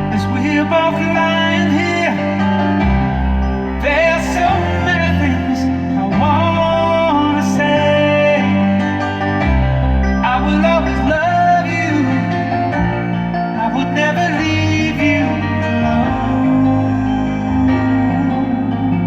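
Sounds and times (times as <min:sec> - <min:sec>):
bass notes: 0:00.0 - 0:19.0
guitar: 0:00.0 - 0:19.0
person singing: 0:00.0 - 0:19.0.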